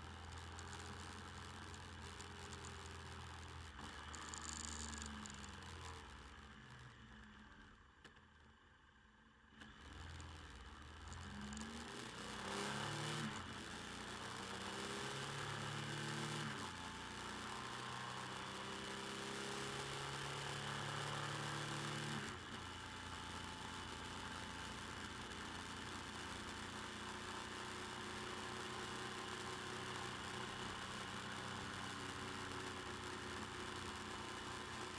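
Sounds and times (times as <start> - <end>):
motorcycle engine revving through gears: 0.0 - 7.4, 9.5 - 34.9.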